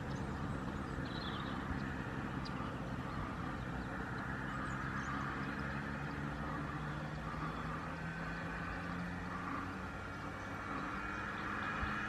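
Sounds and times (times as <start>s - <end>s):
low motor hum: 0.0s - 12.0s
small bird twittering: 0.0s - 12.0s.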